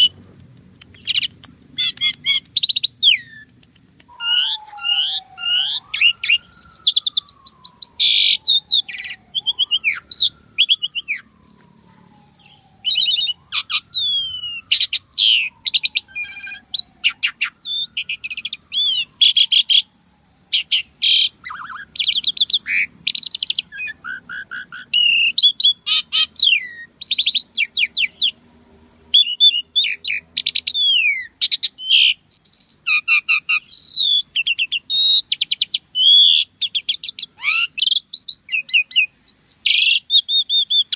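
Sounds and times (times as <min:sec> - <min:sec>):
starling singing: 0:00.0 - 0:00.2, 0:00.8 - 0:40.9.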